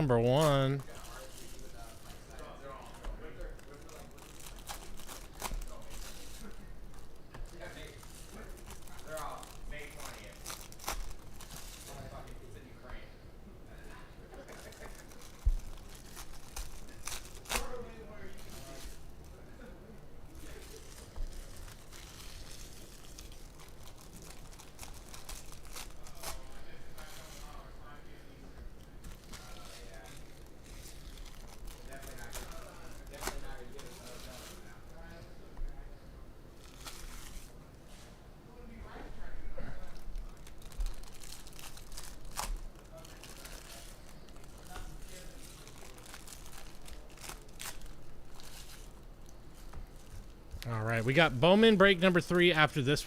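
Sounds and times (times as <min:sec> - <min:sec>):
wrappers tearing and crinkling: 0:00.4 - 0:12.4, 0:14.4 - 0:19.4, 0:20.3 - 0:27.7, 0:29.0 - 0:35.1, 0:36.6 - 0:37.6, 0:39.9 - 0:51.1.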